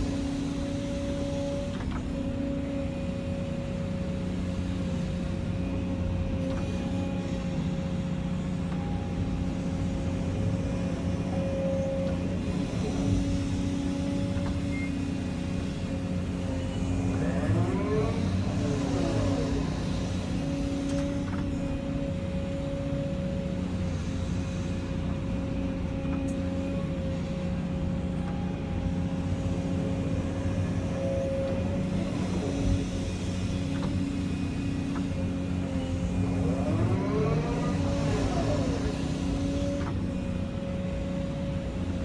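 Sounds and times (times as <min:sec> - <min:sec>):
diesel engine running under load: 0:00.0 - 0:42.0
hydraulic whine: 0:00.0 - 0:42.0.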